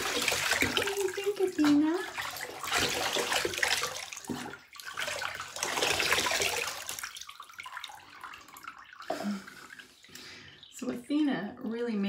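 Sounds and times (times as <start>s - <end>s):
bathwater splashing: 0.0s - 12.0s.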